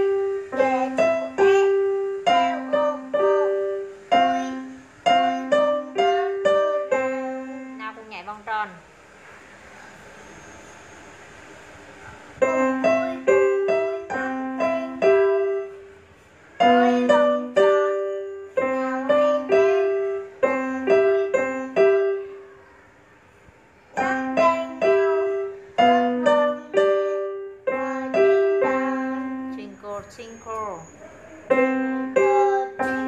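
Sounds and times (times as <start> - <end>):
slow digital piano melody: 0.0 - 8.1, 12.4 - 22.9, 24.0 - 33.0.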